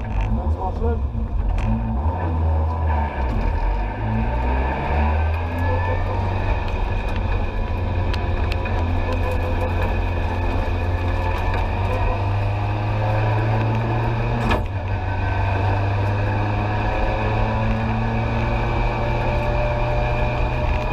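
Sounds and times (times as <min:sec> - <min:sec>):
rally car engine revving: 0:00.0 - 0:20.9.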